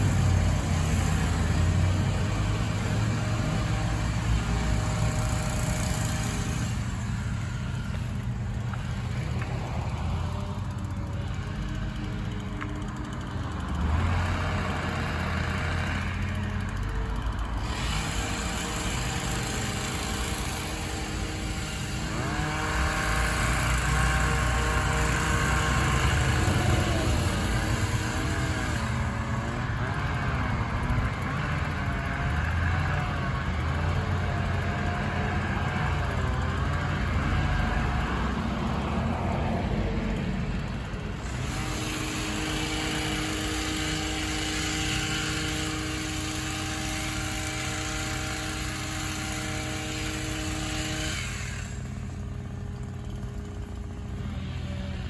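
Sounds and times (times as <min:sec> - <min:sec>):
truck engines running: 0:00.0 - 0:55.0.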